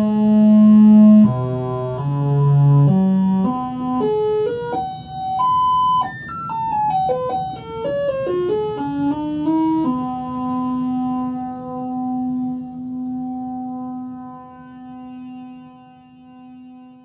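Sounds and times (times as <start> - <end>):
analog synthesizer melody: 0.0 - 17.0.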